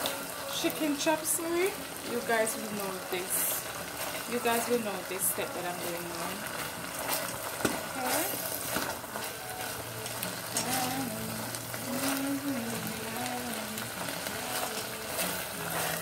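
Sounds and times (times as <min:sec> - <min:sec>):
chicken sizzling in a pot: 0:00.0 - 0:16.0.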